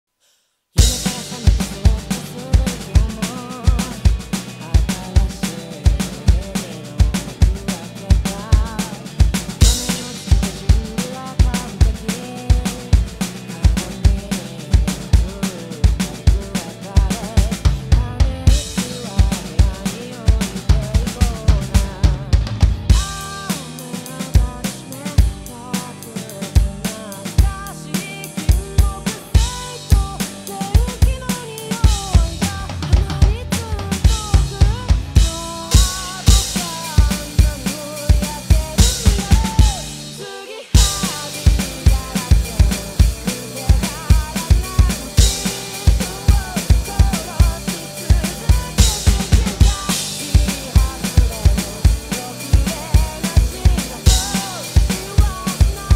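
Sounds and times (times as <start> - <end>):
electronic drum kit playing: 0.8 - 55.9
recorded song with sung vocals: 0.8 - 55.9.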